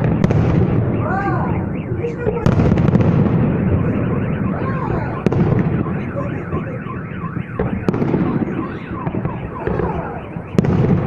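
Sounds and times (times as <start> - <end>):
car alarm wailing: 0.0 - 11.0
crowd murmur: 0.0 - 11.0
fireworks bangs: 0.0 - 11.0.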